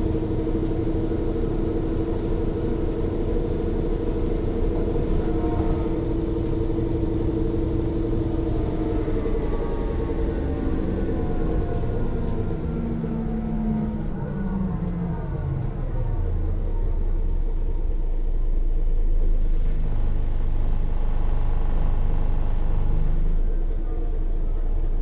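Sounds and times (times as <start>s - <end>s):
bus diesel engine: 0.0s - 25.0s.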